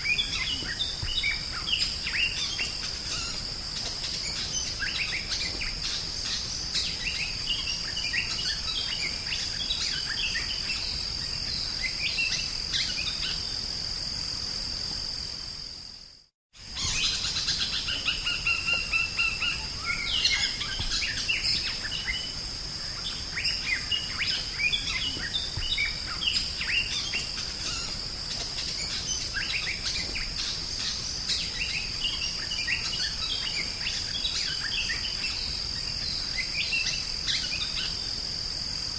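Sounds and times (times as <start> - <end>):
high insect buzz: 0.0 - 38.9.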